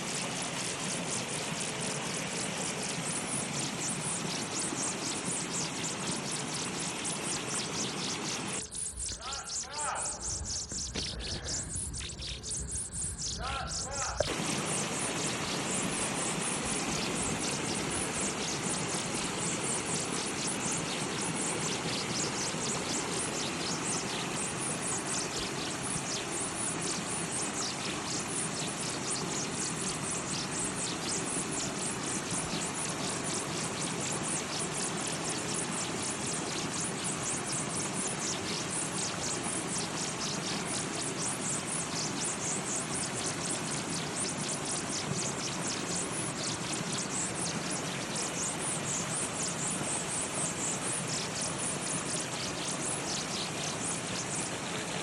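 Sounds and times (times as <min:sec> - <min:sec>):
water running and splashing: 0:00.0 - 0:08.7, 0:13.6 - 0:55.0.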